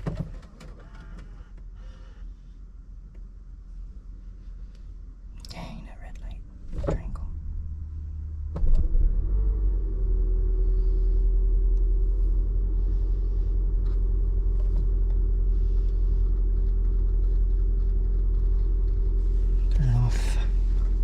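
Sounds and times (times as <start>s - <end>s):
car engine low rumble: 0.0s - 21.0s
steady hum: 1.2s - 21.0s.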